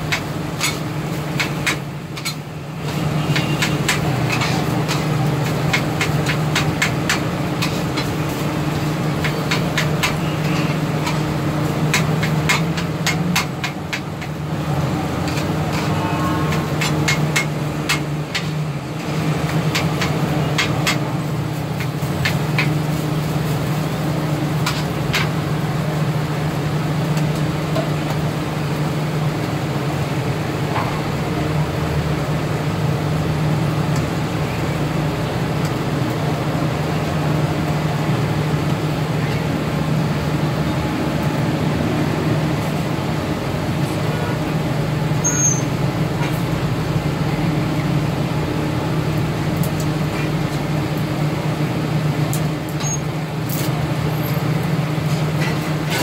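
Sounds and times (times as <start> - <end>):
low mechanical hum: 0.0 - 56.0
street traffic: 0.0 - 56.0.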